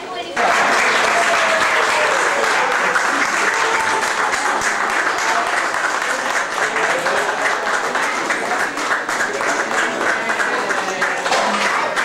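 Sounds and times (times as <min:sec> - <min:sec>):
audience clapping: 0:00.4 - 0:12.0.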